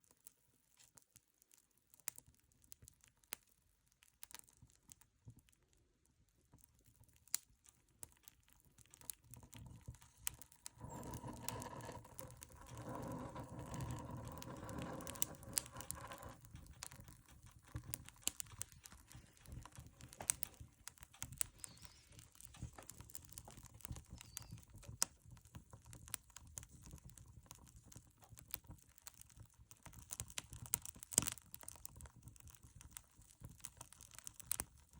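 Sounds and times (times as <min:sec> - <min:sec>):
wood fire crackling in stove: 0:00.1 - 0:34.9.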